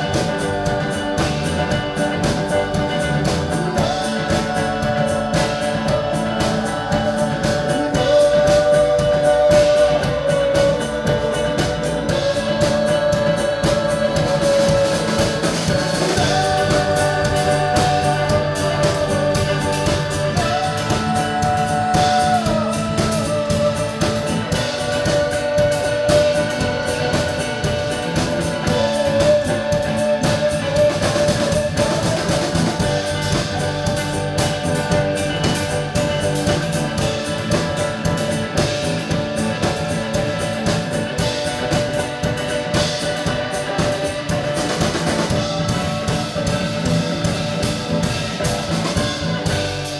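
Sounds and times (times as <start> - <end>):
drum kit beat: 0.0 - 49.9
electric guitar: 0.0 - 49.9.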